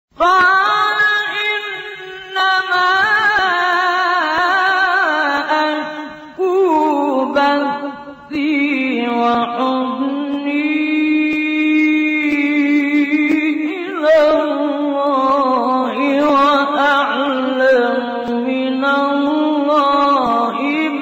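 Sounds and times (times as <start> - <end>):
solo voice chanting: 0.1 - 21.0.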